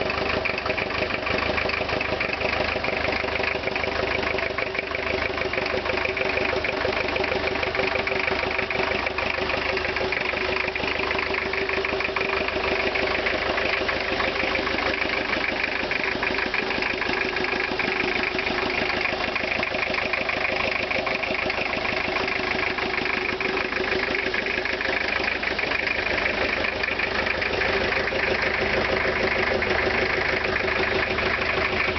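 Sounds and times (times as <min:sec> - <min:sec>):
diesel engine idling with clatter: 0:00.0 - 0:31.9.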